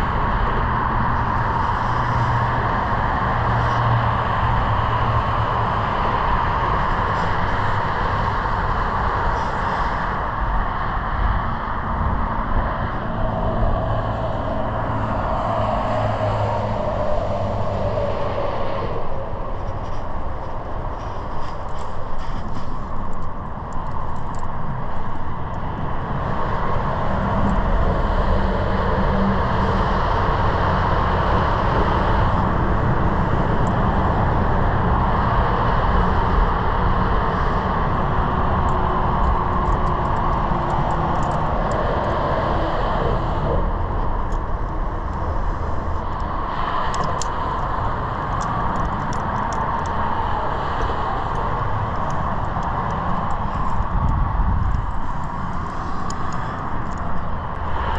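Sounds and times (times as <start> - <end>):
highway traffic roar: 0.0 - 57.9.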